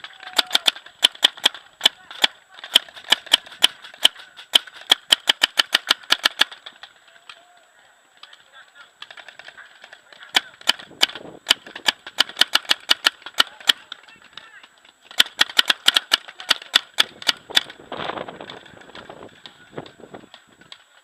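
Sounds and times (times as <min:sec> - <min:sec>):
paintball markers firing: 0:00.0 - 0:21.0.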